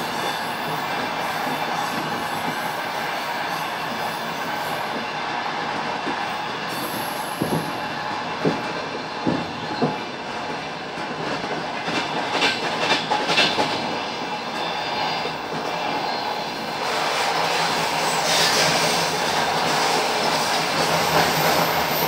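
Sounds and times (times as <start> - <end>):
train rumbling on rails: 0.0 - 22.0
train wheels clacking: 0.0 - 22.0.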